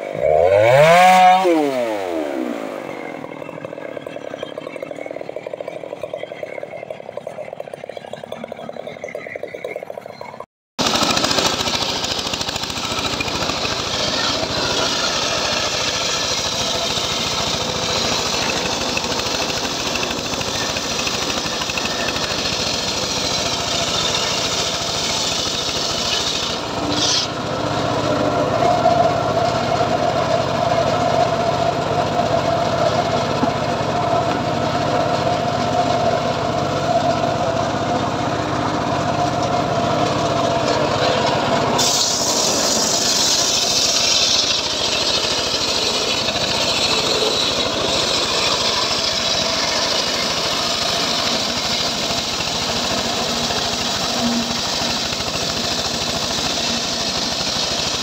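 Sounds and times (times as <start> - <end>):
chainsaw cutting log: 0.0 - 5.6, 10.8 - 36.5, 39.1 - 58.0
band sawmill running: 0.0 - 58.0.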